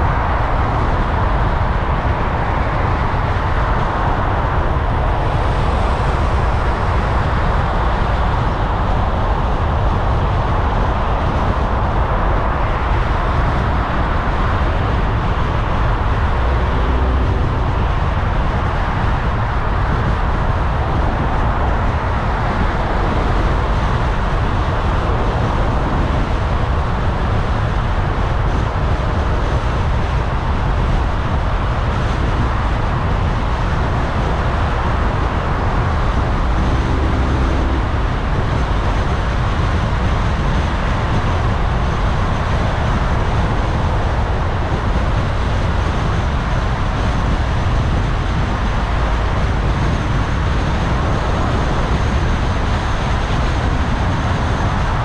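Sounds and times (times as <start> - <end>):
deep low rumble: 0.0 - 44.1
car road and tyre noise: 0.0 - 55.0.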